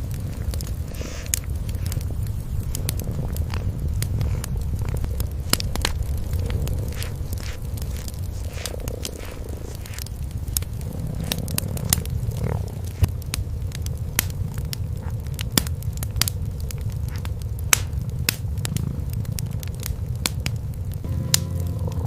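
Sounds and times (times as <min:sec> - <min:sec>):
cat purring: 0:00.0 - 0:20.3
wood fire crackling and popping: 0:00.0 - 0:22.0.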